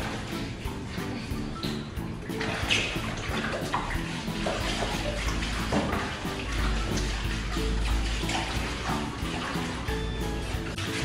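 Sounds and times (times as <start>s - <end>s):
background music: 0.0s - 11.0s
water splashing on tiled floor: 0.0s - 11.0s.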